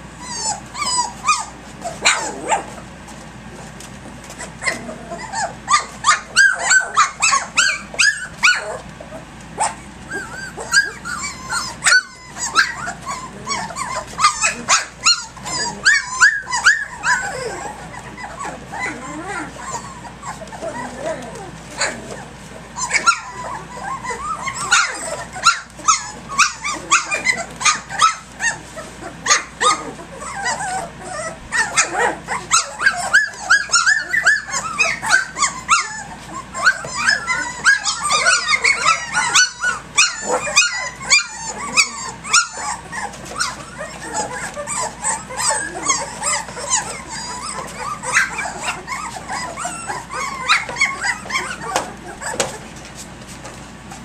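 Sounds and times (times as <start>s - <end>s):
puppies growling and yipping: 0.0s - 54.0s.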